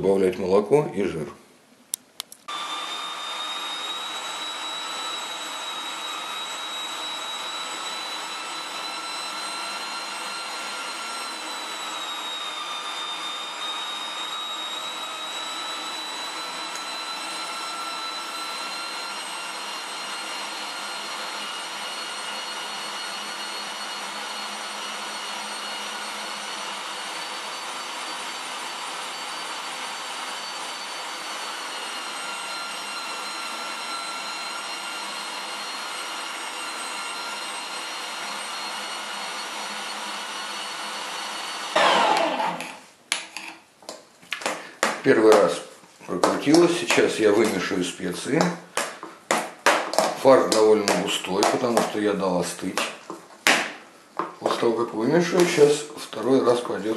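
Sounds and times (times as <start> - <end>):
electric meat grinder whine: 2.5 - 43.5, 46.0 - 53.6, 54.2 - 56.9.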